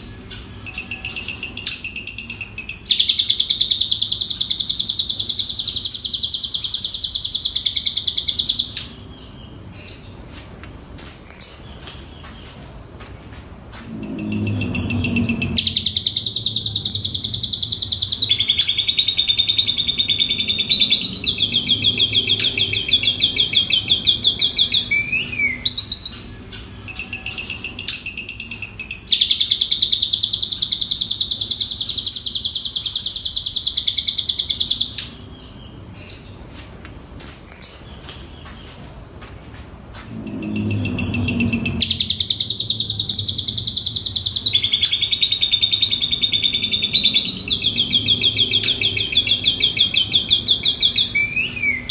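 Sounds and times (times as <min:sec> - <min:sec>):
starling singing trills and chatter: 0:00.0 - 0:10.2, 0:13.8 - 0:36.4, 0:40.0 - 0:51.9.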